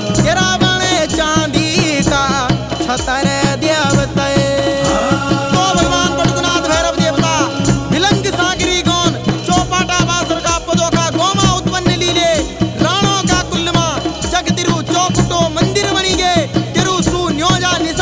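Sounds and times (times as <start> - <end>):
person singing: 0.0 - 15.0
fast drum rhythm: 0.0 - 18.0.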